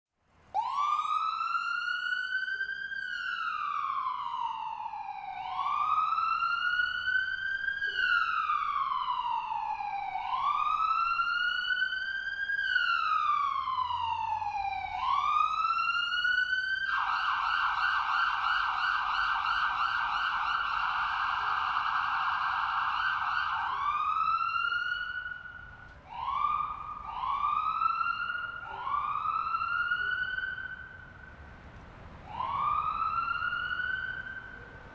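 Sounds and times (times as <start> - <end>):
ambulance siren wailing: 0.5 - 34.9.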